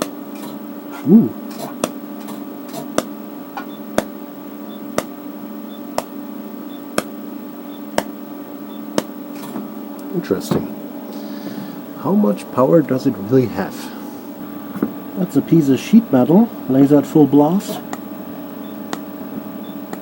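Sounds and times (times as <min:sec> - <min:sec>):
cooling pump hum: 0:00.0 - 0:20.0.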